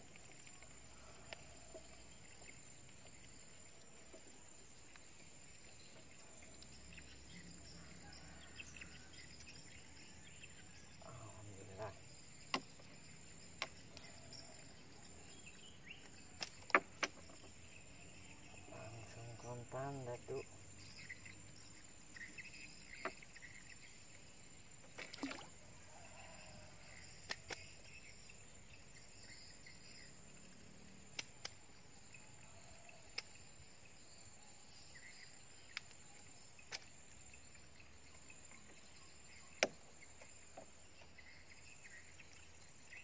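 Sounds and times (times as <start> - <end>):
faint insect chirping: 0.0 - 43.0.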